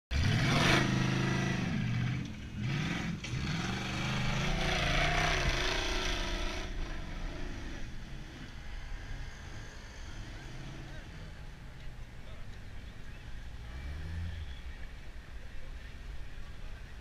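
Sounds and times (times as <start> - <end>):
buggy engine revving: 0.1 - 17.0.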